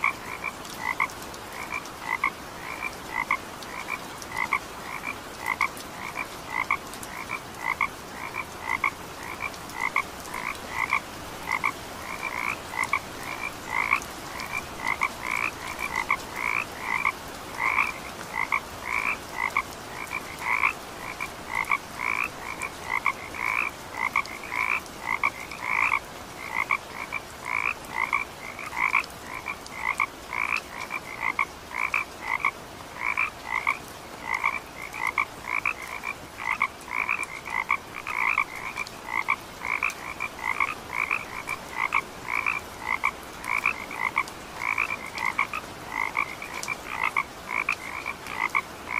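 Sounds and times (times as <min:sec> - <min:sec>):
frogs calling in chorus: 0:00.0 - 0:48.9.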